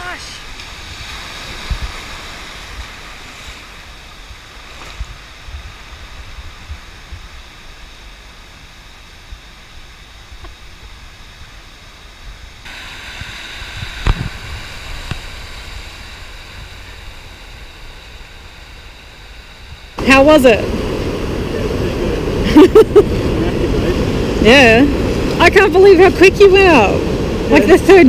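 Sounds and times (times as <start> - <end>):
small surf waves breaking: 0.0 - 28.0
wind rumble on microphone: 0.0 - 28.0.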